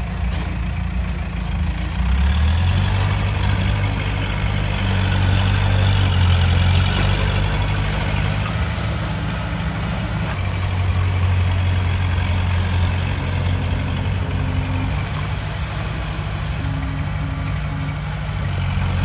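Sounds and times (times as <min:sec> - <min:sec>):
diesel earthmoving machinery: 0:00.0 - 0:19.0.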